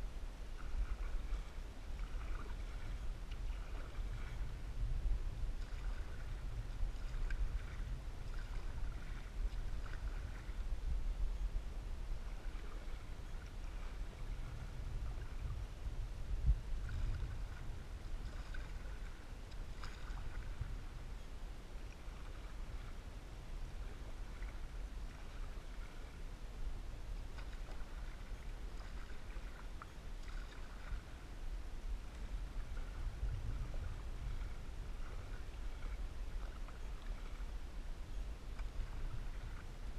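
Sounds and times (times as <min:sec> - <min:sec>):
paddle strokes in water: 0:00.0 - 0:39.9
steady low rumble: 0:00.0 - 0:39.9.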